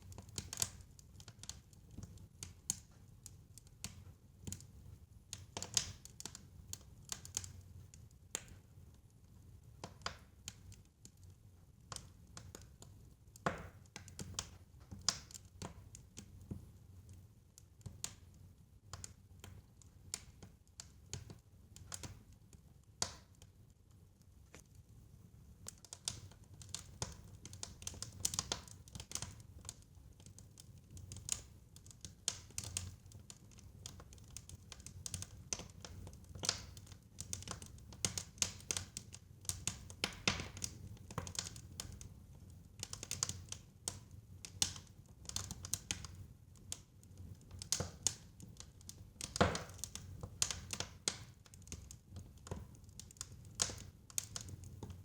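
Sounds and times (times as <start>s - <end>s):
fireplace fire crackling: 0.0s - 55.0s.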